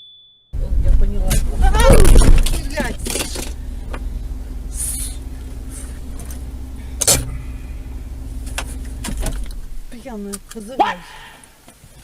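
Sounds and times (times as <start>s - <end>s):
car engine running: 0.6s - 10.8s
steady hum: 0.6s - 11.6s.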